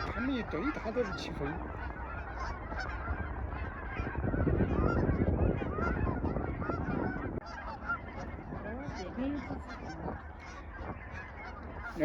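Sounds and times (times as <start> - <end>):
geese honking: 0.0 - 12.0
low rushing of wings: 0.0 - 12.0.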